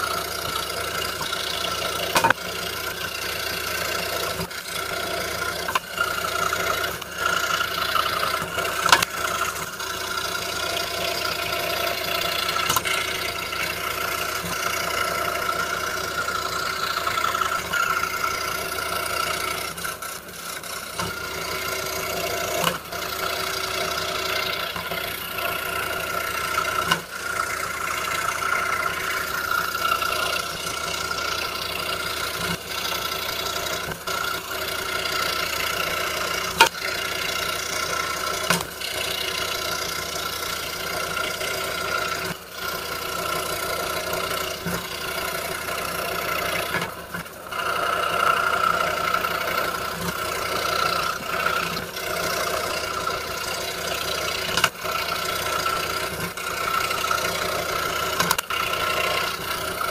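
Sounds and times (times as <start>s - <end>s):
scroll saw cutting wood: 0.0s - 59.9s.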